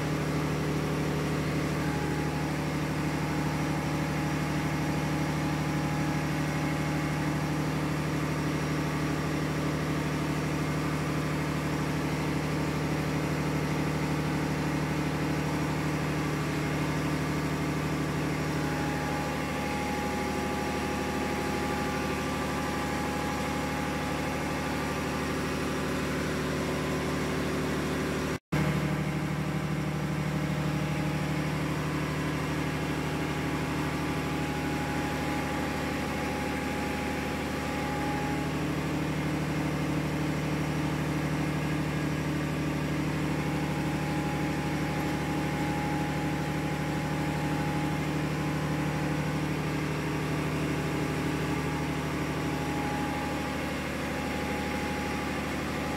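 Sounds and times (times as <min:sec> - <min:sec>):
engine-room machinery drone: 0:00.0 - 0:55.9.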